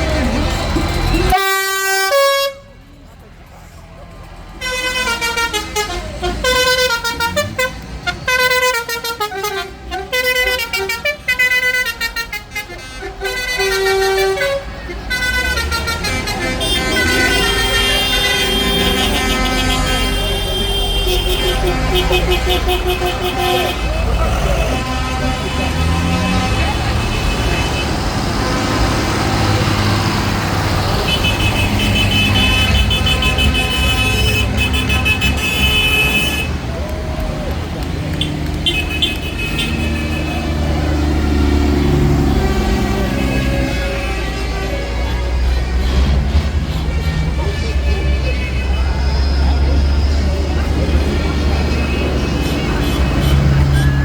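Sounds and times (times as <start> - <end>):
tractor horns honking: 0.0 - 3.0, 4.5 - 54.0
engines rumbling: 0.0 - 54.0.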